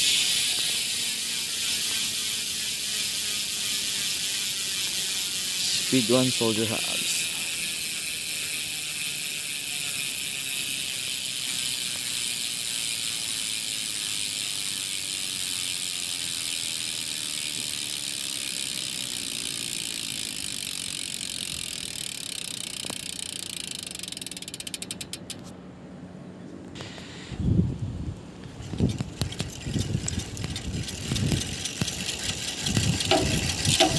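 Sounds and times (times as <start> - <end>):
bicycle freehub ratchet buzz: 0.0 - 25.5, 28.6 - 33.9.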